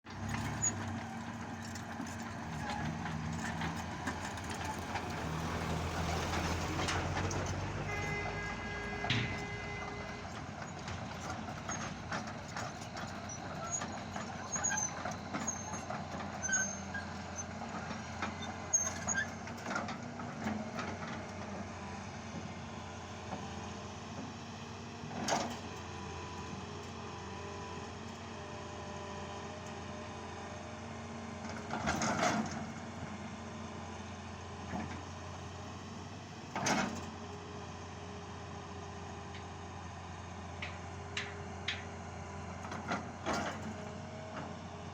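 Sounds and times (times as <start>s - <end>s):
heavy machinery engine running: 0.1s - 28.6s, 30.8s - 44.9s.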